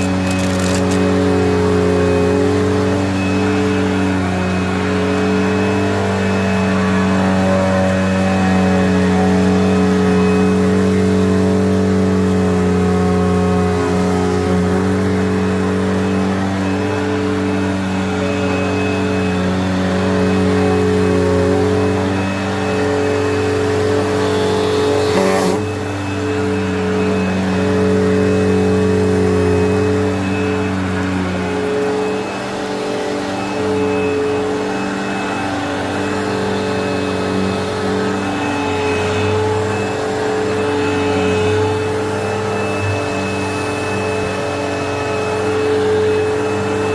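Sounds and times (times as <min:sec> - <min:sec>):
vacuum cleaner motor humming: 0:00.0 - 0:46.9.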